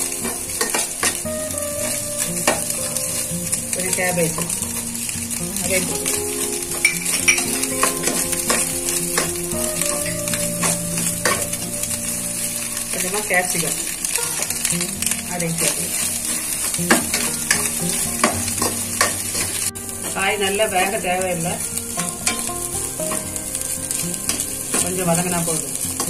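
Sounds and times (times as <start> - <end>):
metal spatula scraping a pan: 0.0 - 3.2, 5.6 - 12.0, 12.9 - 26.0
vegetables sizzling in hot oil: 0.0 - 26.0.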